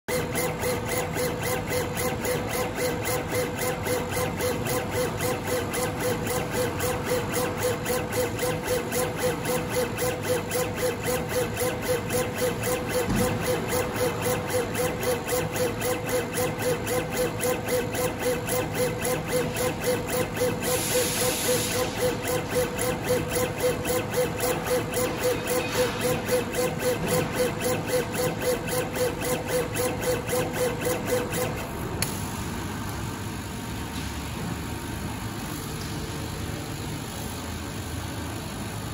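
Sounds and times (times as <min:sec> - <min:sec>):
laser head jogging pulses: 0:00.1 - 0:31.7
machine whine: 0:00.1 - 0:32.9.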